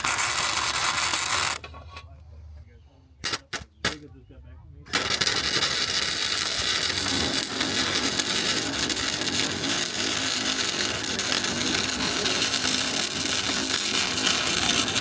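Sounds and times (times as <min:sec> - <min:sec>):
arc welding crackle: 0:00.0 - 0:01.6, 0:03.2 - 0:04.0, 0:04.9 - 0:15.0.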